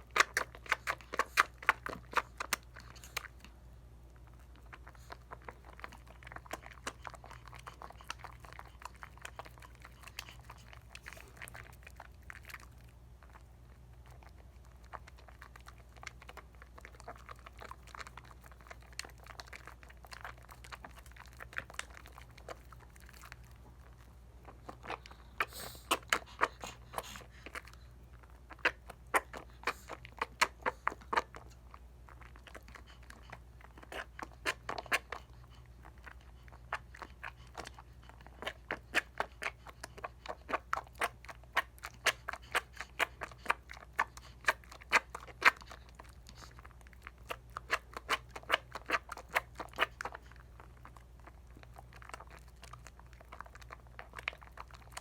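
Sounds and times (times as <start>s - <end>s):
soap lather squishing: 0.0s - 55.0s.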